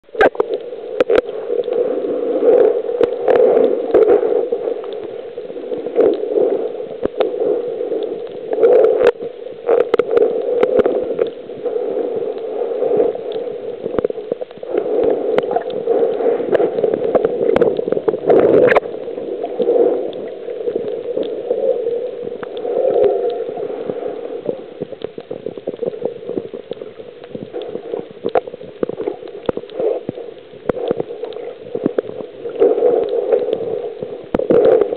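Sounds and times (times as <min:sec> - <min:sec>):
muffled underwater rushing water: 0:00.0 - 0:34.9.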